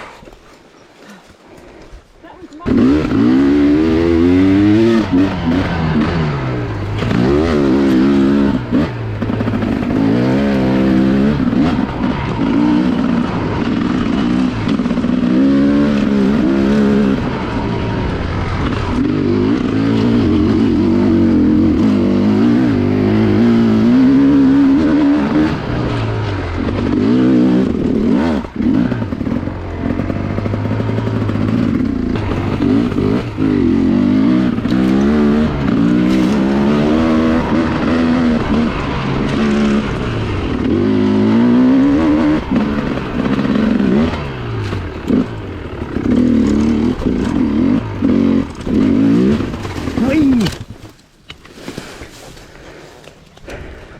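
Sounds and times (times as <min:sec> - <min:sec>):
dirt bike engine revving: 0:02.6 - 0:50.7.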